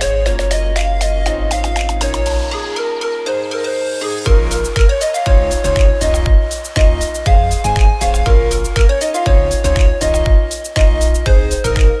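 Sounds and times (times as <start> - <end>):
background music with thumping beat: 0.0 - 12.0.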